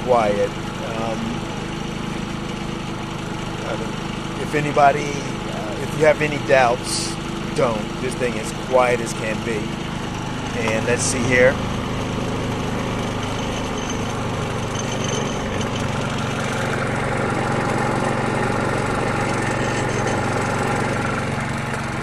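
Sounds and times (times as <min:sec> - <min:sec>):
generator engine humming: 0:00.0 - 0:22.0.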